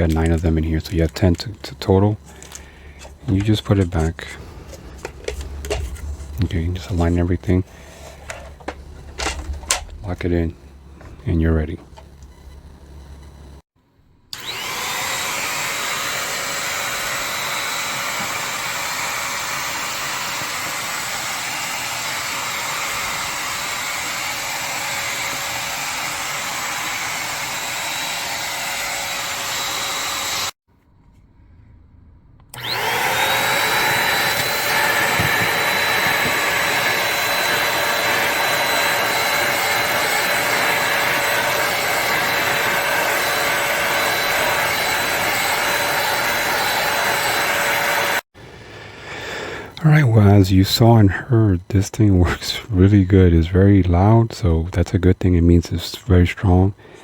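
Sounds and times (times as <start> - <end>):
vacuum cleaner motor whining: 0.0 - 13.6, 14.3 - 30.6, 32.5 - 48.3.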